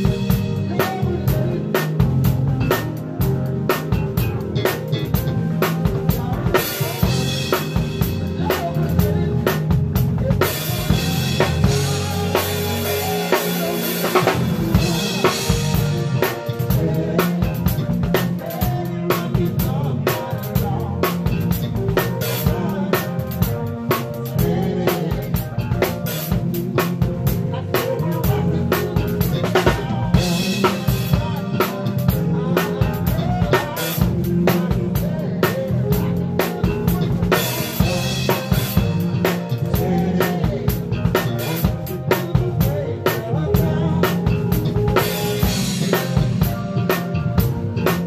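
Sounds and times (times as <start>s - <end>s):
drum kit hits: 0.0s - 48.0s
electric bass: 0.0s - 48.0s
live funk band playing: 0.0s - 48.0s.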